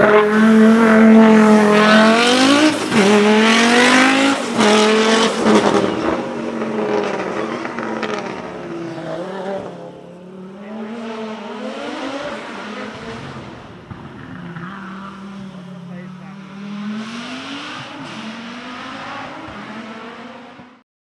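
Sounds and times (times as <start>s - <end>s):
car engine accelerating hard: 0.0s - 20.8s.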